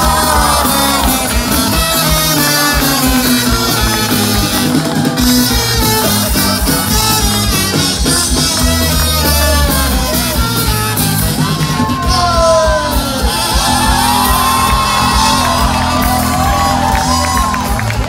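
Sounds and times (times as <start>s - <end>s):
crowd shouting and yelling: 0.0s - 18.0s
drums: 0.0s - 18.0s
electric guitar: 0.0s - 18.0s
saxophone: 0.0s - 18.0s
trumpet: 0.0s - 18.0s.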